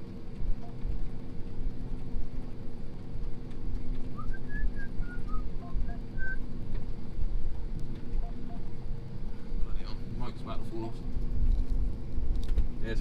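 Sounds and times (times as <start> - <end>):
combine engine droning: 0.0 - 13.0.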